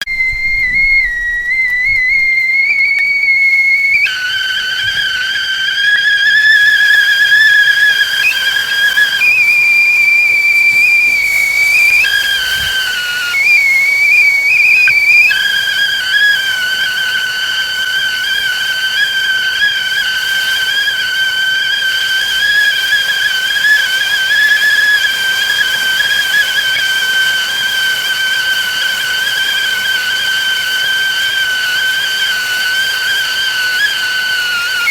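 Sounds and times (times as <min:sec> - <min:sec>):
teapot whistling: 0:00.0 - 0:34.9.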